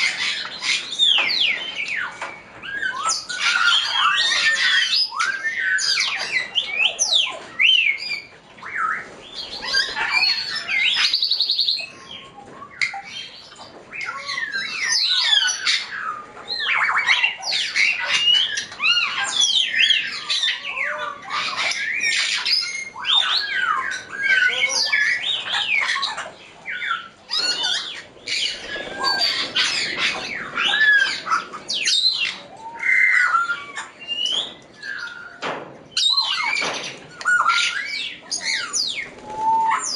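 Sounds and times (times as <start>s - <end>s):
parrots whistling and squawking: 0.0s - 39.9s.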